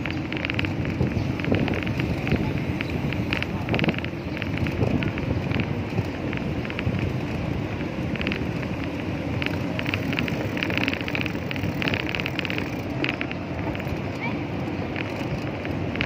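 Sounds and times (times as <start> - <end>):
bicycle tyres rumbling on asphalt: 0.0 - 16.0
rapid ticking: 0.0 - 16.0
wind on microphone: 0.0 - 16.0.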